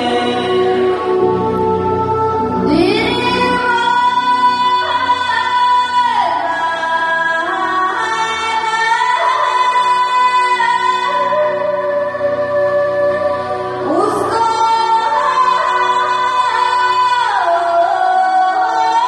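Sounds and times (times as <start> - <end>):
steady musical accompaniment: 0.0 - 19.0
woman singing into a microphone: 0.0 - 19.0.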